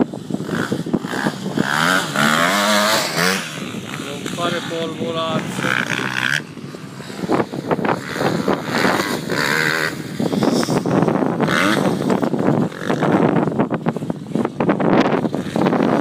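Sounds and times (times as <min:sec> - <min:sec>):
motocross bike engines revving: 0:00.0 - 0:16.0
wind buffeting microphone: 0:00.0 - 0:16.0.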